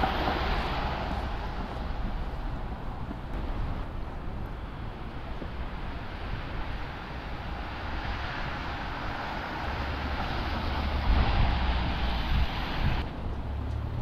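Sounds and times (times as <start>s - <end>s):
passing vehicle rushing: 0.0s - 14.0s.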